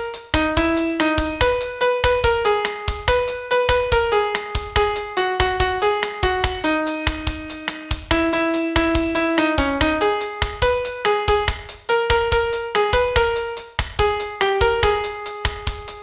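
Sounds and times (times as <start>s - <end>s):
piano melody: 0.0s - 16.0s
steady low beat: 0.0s - 16.0s.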